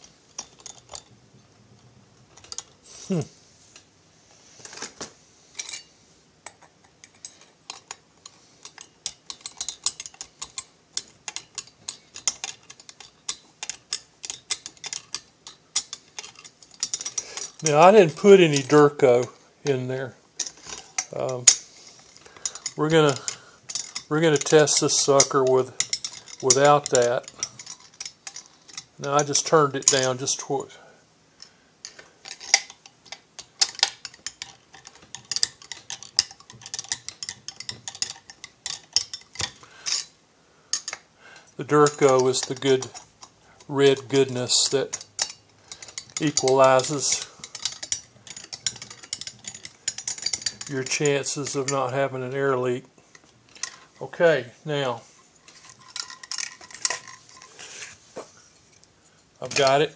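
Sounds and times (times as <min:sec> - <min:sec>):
metal parts clicking and knocking: 0:00.0 - 0:01.2, 0:01.8 - 0:03.9, 0:04.6 - 0:30.8, 0:31.4 - 0:58.0, 0:58.6 - 0:59.9.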